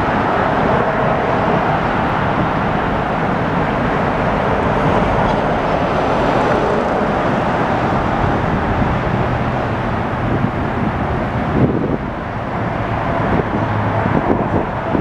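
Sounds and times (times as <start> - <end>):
jet engine climbing overhead: 0.0 - 15.0.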